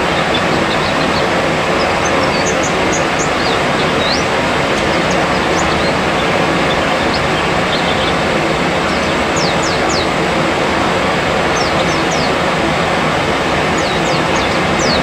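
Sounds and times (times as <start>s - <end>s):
birds chirping: 0.0s - 15.0s
loud steady noise: 0.0s - 15.0s.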